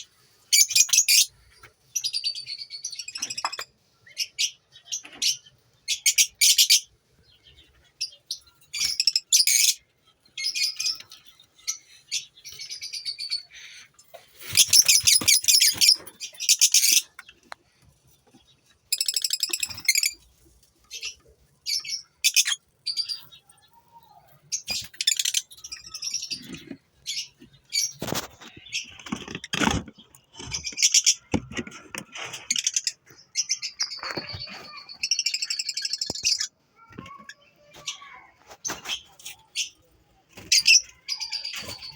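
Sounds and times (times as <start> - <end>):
lovebirds chirping: 0.0 - 36.6, 37.2 - 41.9.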